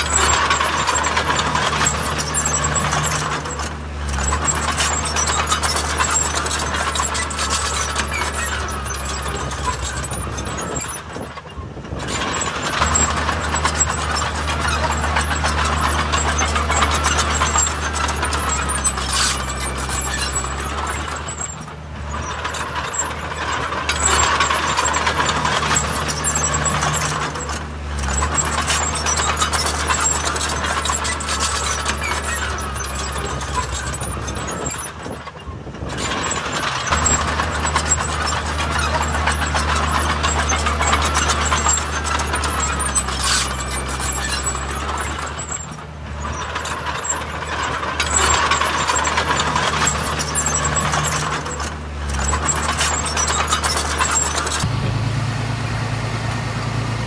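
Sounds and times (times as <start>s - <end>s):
machinery clatter: 0.0s - 55.4s
diesel engine working: 0.0s - 57.0s.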